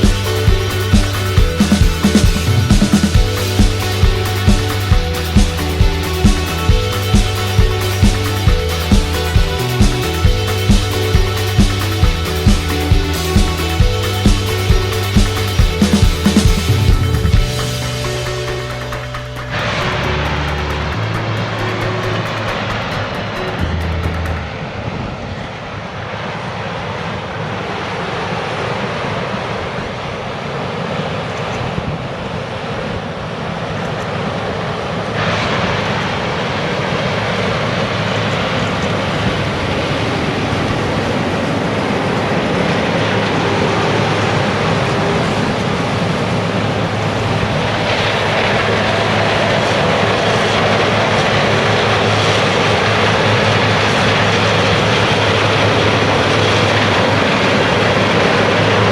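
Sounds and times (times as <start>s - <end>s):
diesel machinery running: 0.0s - 25.8s, 37.2s - 58.9s.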